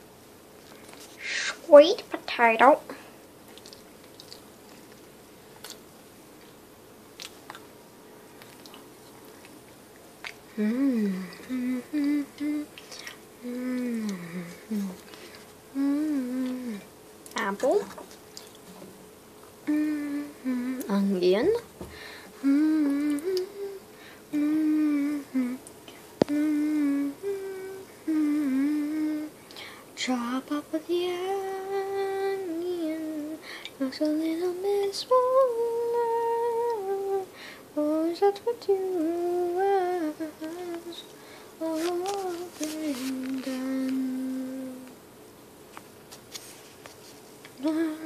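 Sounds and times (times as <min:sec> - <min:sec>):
background hiss: 0:00.0 - 0:48.0
faint steady hum: 0:00.0 - 0:48.0.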